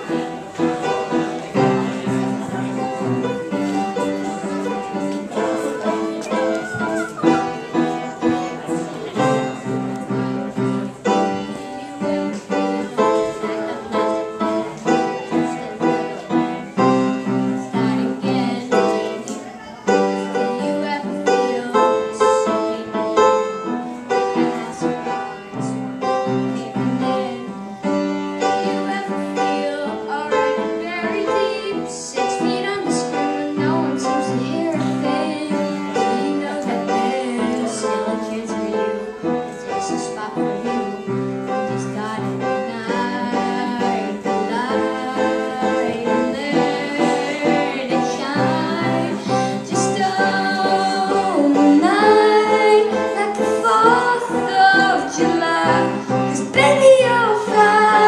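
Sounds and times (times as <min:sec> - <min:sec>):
piano playing repeated chords: 0:00.0 - 0:58.0.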